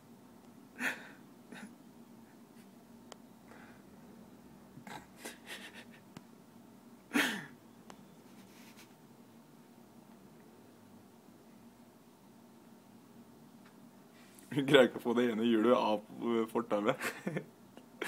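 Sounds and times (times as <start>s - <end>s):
faint room hum: 0.0s - 18.0s.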